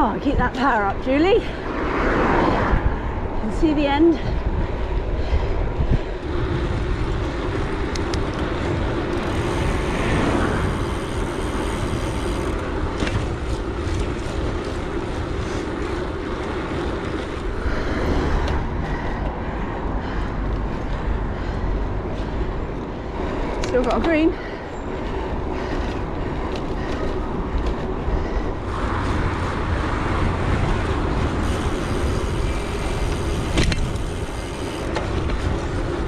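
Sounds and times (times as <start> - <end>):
tyre road noise on tarmac: 0.0 - 36.0
wind rushing over microphone: 0.0 - 36.0.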